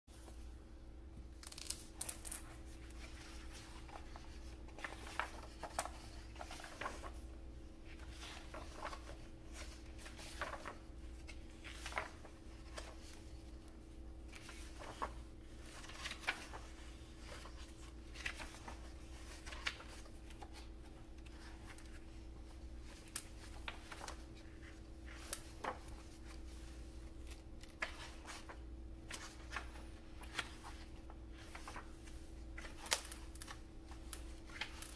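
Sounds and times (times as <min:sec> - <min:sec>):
book pages turning: 0:01.2 - 0:34.9.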